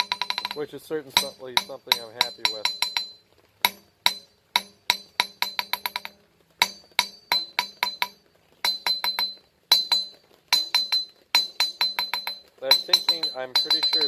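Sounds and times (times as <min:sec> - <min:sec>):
hammer bouncing on anvil: 0:00.0 - 0:14.0.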